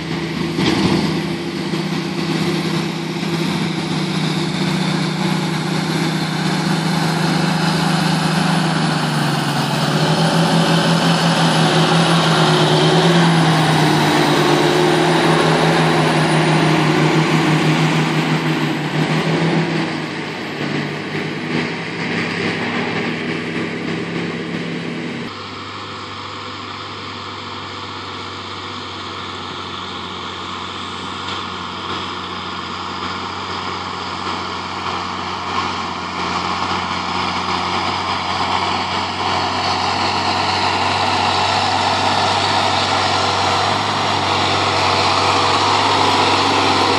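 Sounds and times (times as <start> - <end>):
distant tractor engine hum: 0.0 - 46.9
tractor diesel engine under load: 0.0 - 46.9.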